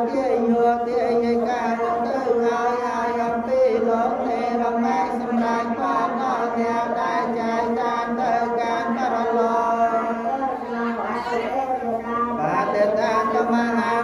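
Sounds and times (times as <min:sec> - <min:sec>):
monks chanting in unison: 0:00.0 - 0:14.0.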